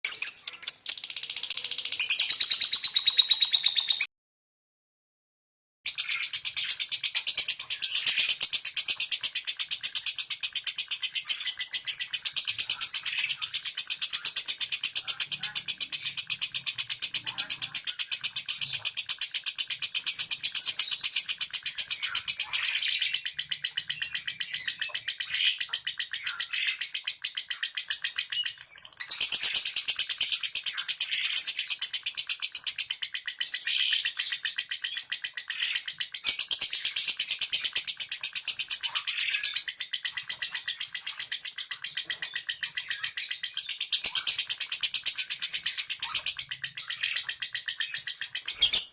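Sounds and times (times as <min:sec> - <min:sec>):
lovebird chattering song: 0:00.0 - 0:04.1, 0:05.9 - 0:48.9.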